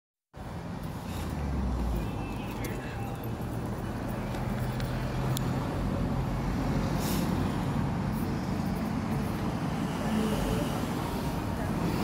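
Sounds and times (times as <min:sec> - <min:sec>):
vehicles passing: 0:00.4 - 0:12.0.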